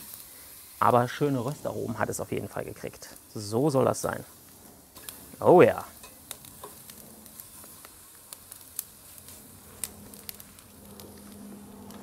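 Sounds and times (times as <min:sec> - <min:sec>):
crackles and pops: 0:00.0 - 0:12.0
steak sizzling on a grill: 0:00.0 - 0:12.0.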